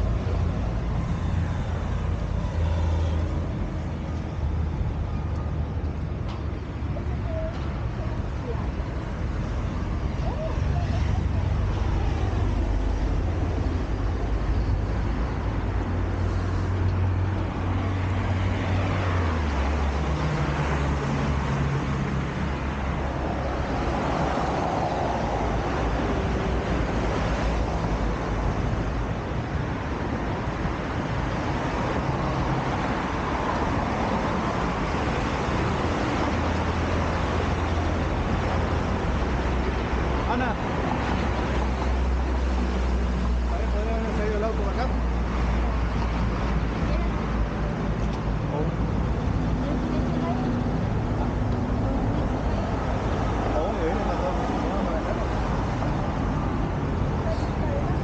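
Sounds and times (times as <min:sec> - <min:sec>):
passing vehicles rumbling: 0:00.0 - 0:58.0.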